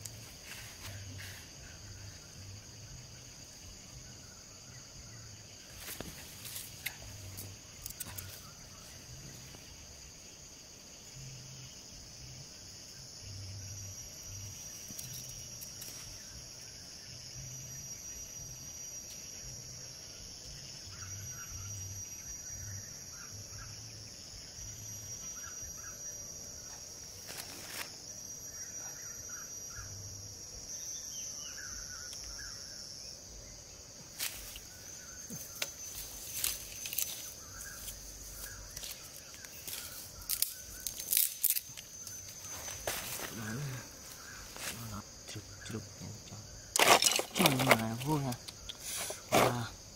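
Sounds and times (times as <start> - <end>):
insects buzzing: 0.0 - 49.9.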